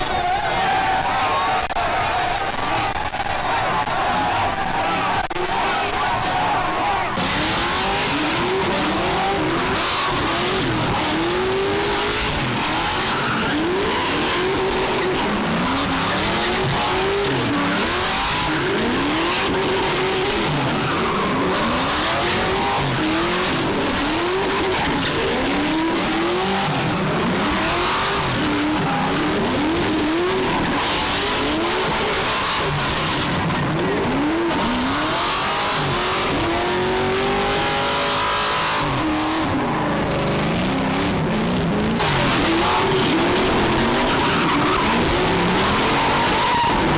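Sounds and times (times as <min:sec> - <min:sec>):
car engine revving hard: 0:07.2 - 0:46.9.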